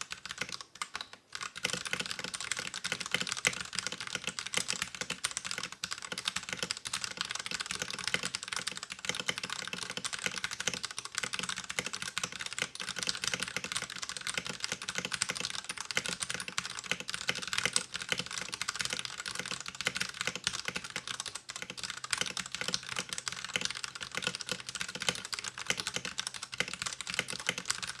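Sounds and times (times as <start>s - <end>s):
fast typing on mechanical keyboard: 0.0s - 28.0s.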